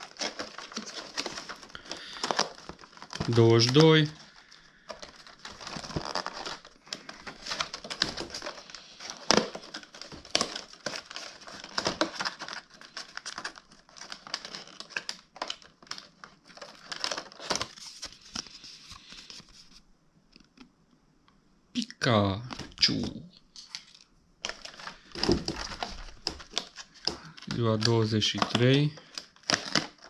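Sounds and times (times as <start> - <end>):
cardboard and plastic packaging rustling: 0.0 - 19.8, 22.4 - 30.0.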